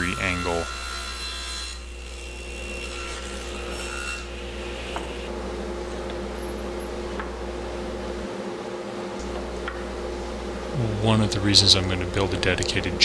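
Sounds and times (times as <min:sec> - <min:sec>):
saw motor and blade hum: 0:00.0 - 0:13.0.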